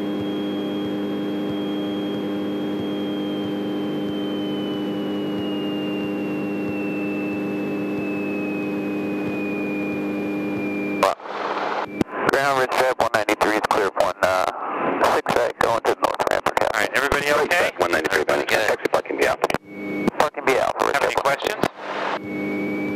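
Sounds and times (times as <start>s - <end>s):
thin high whine: 0.0s - 22.9s.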